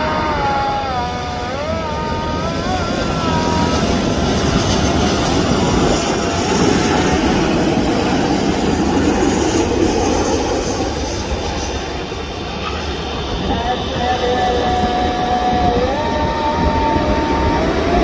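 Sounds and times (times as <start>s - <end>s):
jet engine rush: 0.0s - 18.0s
jet engine wavering whine: 0.0s - 18.0s.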